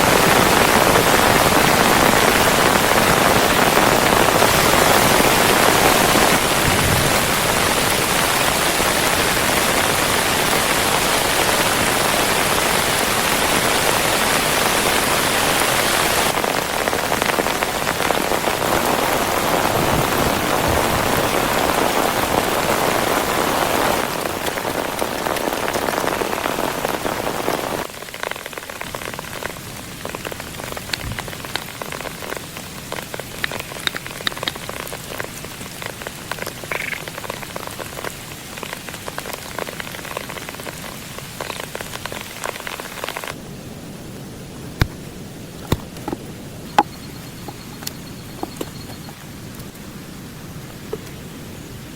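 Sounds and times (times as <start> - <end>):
raindrops pattering: 0.0 - 51.6
heavy rain falling: 0.0 - 51.9.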